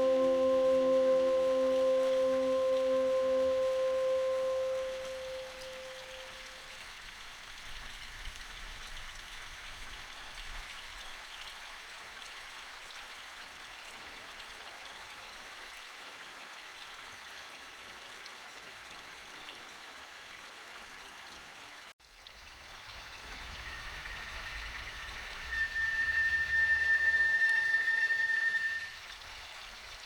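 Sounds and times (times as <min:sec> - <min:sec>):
rain falling in a forest: 0:00.0 - 0:30.0.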